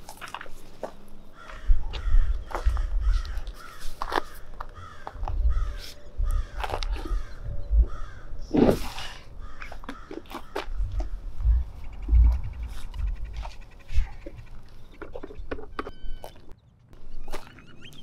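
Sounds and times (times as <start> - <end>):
bird calling: 1.3 - 8.5, 9.3 - 18.0.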